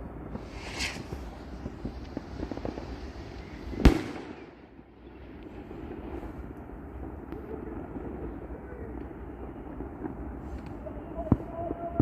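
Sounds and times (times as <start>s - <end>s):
distant city rumble: 0.0s - 12.0s.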